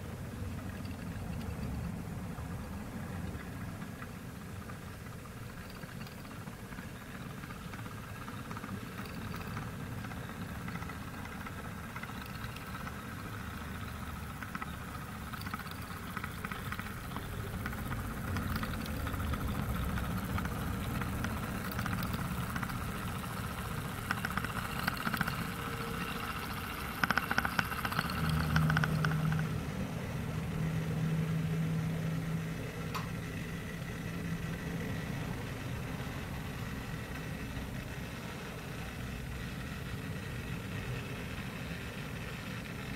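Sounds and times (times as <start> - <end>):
model train running on track: 0.0 - 42.9
steady hum: 0.0 - 42.9.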